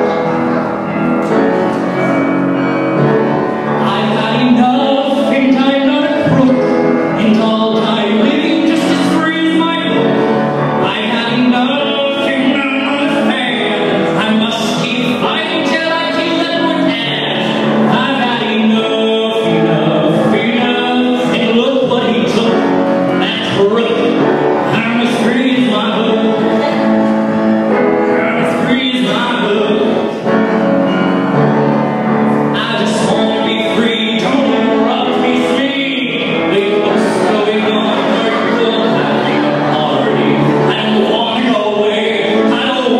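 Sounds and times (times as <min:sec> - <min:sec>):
upright piano: 0:00.0 - 0:42.9
man singing through microphone: 0:03.1 - 0:30.6, 0:31.8 - 0:42.9.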